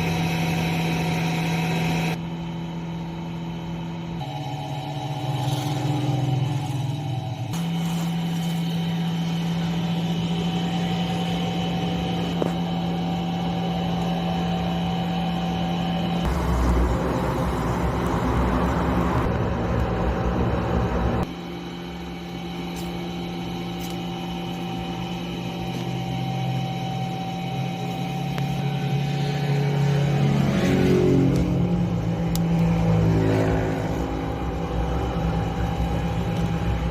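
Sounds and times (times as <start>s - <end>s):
loud rough noisy sound: 0.0s - 36.9s
motor humming: 0.0s - 36.9s.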